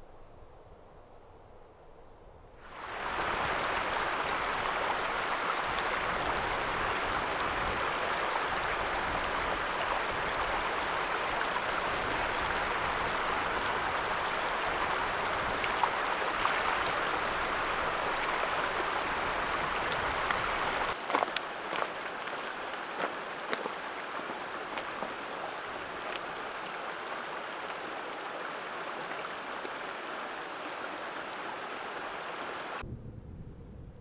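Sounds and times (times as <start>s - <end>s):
stream running over rocks: 2.6s - 32.8s.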